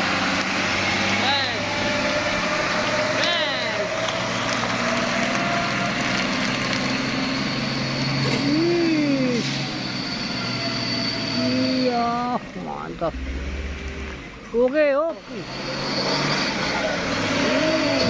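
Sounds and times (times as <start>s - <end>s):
diesel truck engines running: 0.0s - 18.0s.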